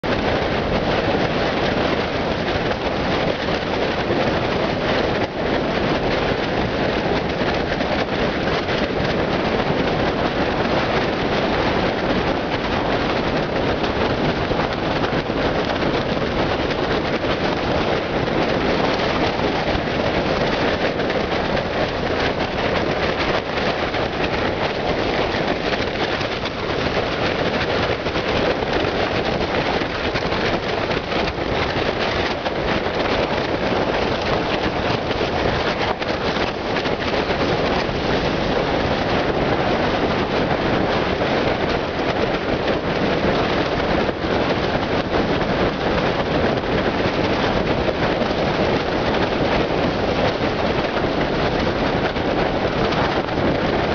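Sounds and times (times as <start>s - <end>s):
tent fabric flapping: 0.0s - 53.9s
wind buffeting a tent: 0.0s - 53.9s.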